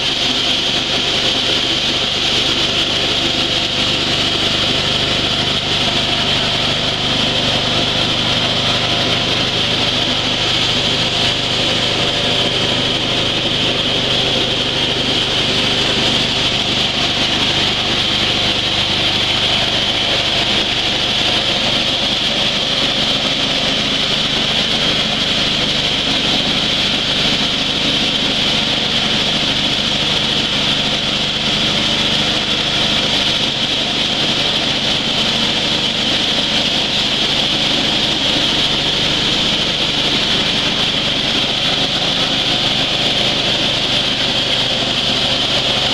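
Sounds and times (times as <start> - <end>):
coffee huller machine running: 0.0 - 45.9.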